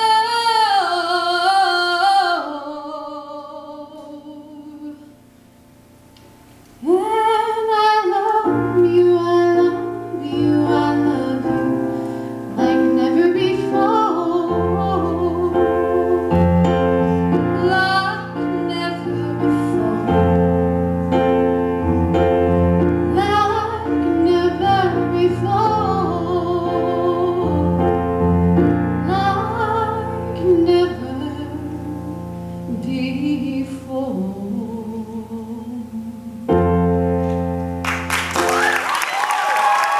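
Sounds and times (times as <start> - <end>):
woman singing a slow ballad: 0.0 - 5.3, 6.7 - 20.7, 22.9 - 37.0
piano chords: 0.0 - 39.9.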